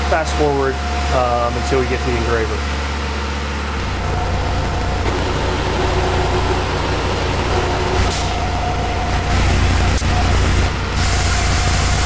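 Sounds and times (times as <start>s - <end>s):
mill spindle humming and hissing: 0.0s - 12.0s.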